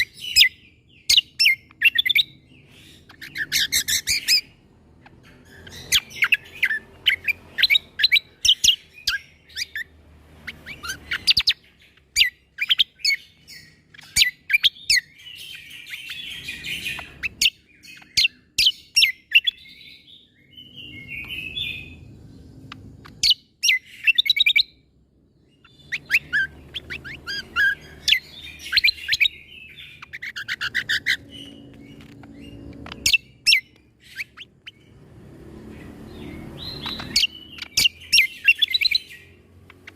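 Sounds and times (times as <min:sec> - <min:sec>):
bird rapid sharp chirping: 0:00.0 - 0:24.8, 0:25.5 - 0:39.9.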